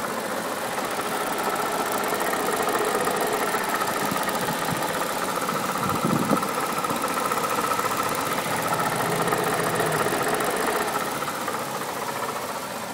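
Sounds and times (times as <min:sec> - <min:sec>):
car engine idling: 0:00.0 - 0:12.9
rapid clicking water pump: 0:00.4 - 0:12.9.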